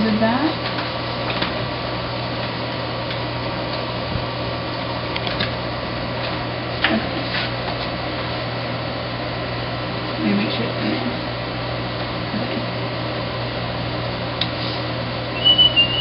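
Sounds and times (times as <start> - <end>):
room hum and hiss: 0.0 - 16.0.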